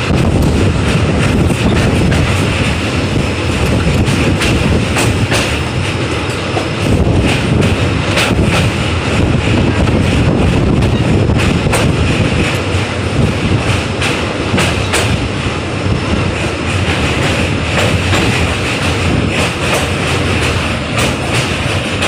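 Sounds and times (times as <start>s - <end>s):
train wheels rumbling on rails: 0.0s - 22.0s
wheels clacking over rail joints: 0.0s - 22.0s.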